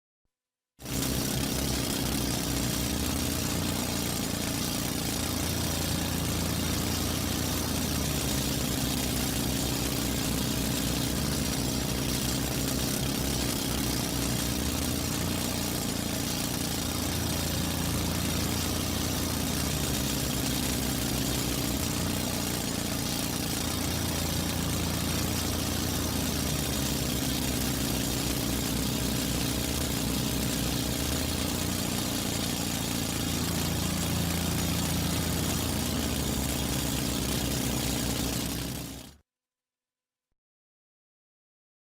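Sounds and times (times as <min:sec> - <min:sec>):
construction drill droning: 0:00.8 - 0:39.2.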